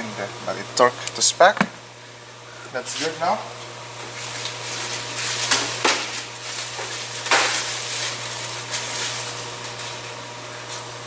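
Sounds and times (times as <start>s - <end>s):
steady hiss and low hum: 0.0s - 11.0s.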